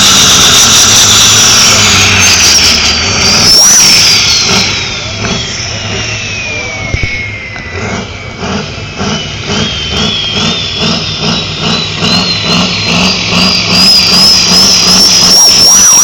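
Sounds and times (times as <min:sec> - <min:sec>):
tractor engine whining: 0:00.0 - 0:16.0.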